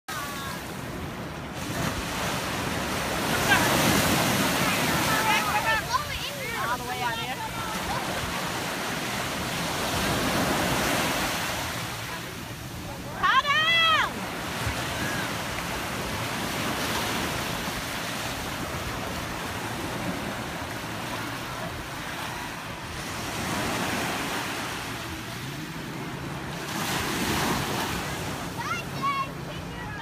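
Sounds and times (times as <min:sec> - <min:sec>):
small waves washing onto beach: 0:00.1 - 0:30.0.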